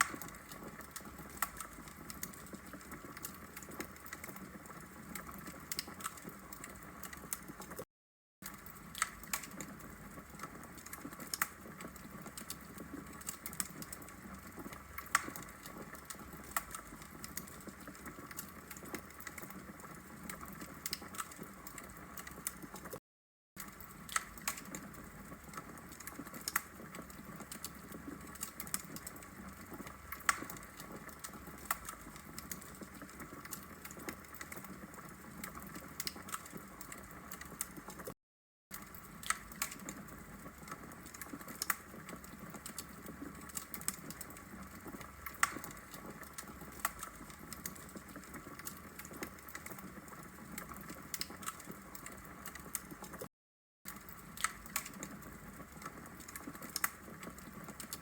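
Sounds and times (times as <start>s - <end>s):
logs crackling in fireplace: 0.0s - 7.8s, 8.4s - 23.0s, 23.6s - 53.3s, 53.9s - 58.0s.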